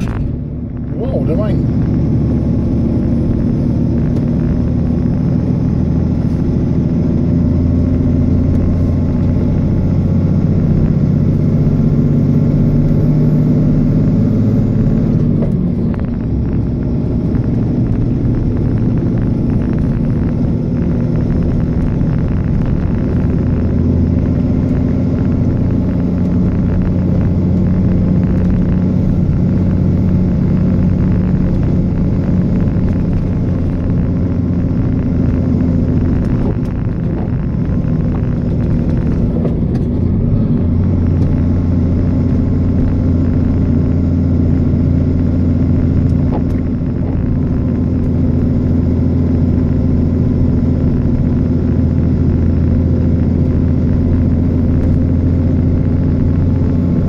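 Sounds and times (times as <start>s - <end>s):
vehicle engine and tyre rumble: 0.0s - 57.0s.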